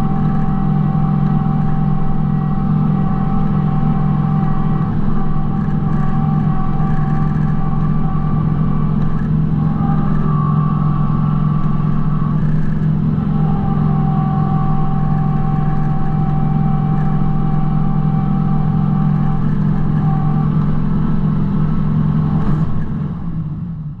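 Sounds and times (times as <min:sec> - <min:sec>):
tractor diesel engine running: 0:00.0 - 0:23.5
high whine: 0:00.0 - 0:24.0.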